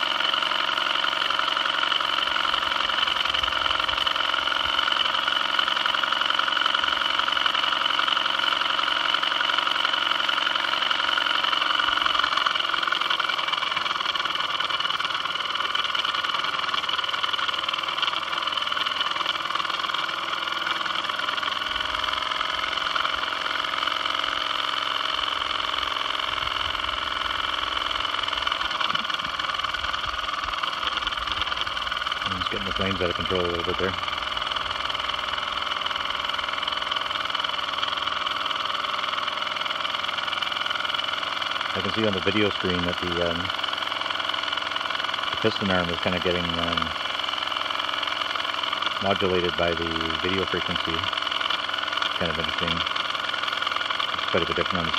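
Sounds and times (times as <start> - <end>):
toy steam engine running: 0.0 - 54.9.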